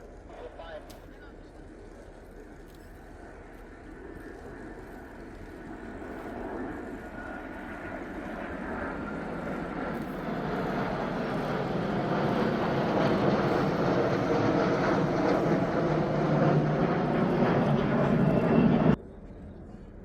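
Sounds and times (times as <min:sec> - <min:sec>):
jet aircraft flying past: 0:03.1 - 0:20.0.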